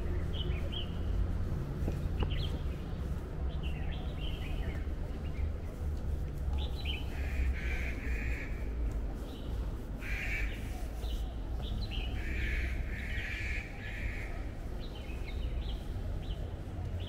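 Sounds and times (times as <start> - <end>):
birds chirping: 0.0 - 1.3, 2.0 - 5.8, 6.6 - 8.6, 9.2 - 17.0.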